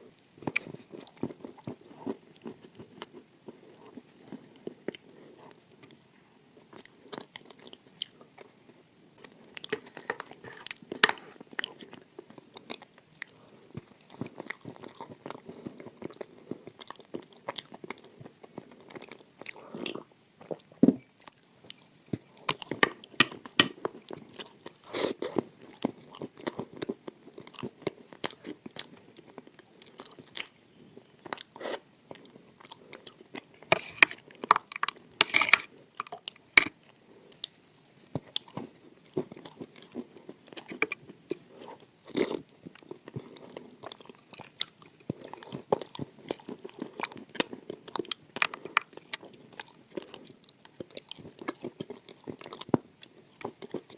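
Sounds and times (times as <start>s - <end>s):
chewing crunchy food: 0.0s - 53.9s.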